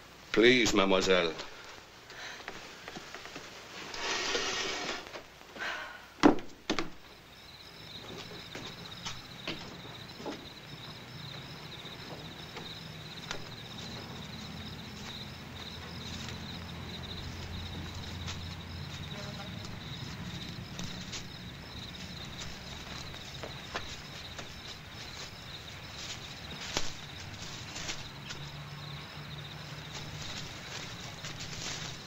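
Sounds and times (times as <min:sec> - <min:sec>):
crickets chirping: 0:00.0 - 0:32.0
faint footsteps: 0:01.4 - 0:05.7, 0:06.7 - 0:32.0.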